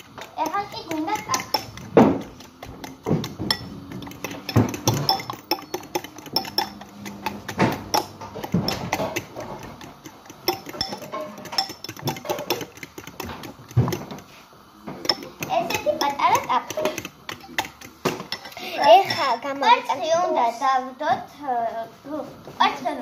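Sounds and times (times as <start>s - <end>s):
dishes and pans knocking: 0.0s - 19.4s
metal spoon scraping bowl: 0.0s - 19.5s.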